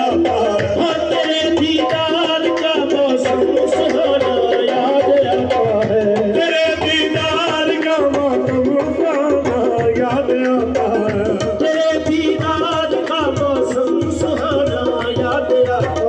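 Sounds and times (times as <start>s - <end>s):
hand drum beat: 0.0s - 16.0s.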